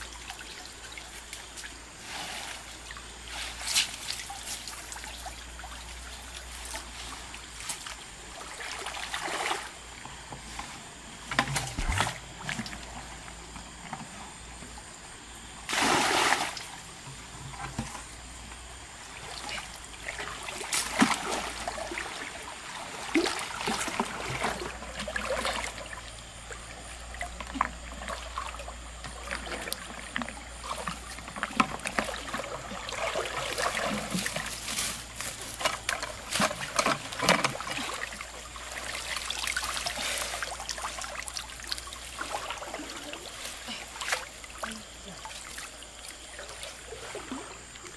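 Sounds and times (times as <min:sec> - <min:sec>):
water splashing and trickling: 0:00.0 - 0:47.9.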